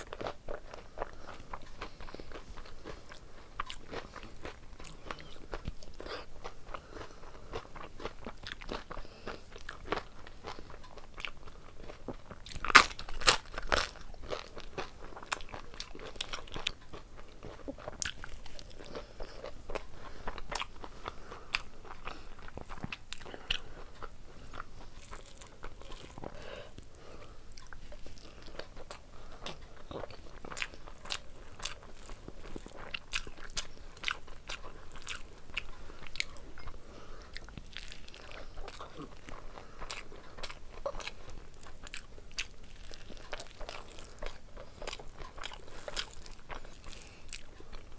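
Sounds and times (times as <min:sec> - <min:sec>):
person chewing and crunching food: 0:00.0 - 0:47.9.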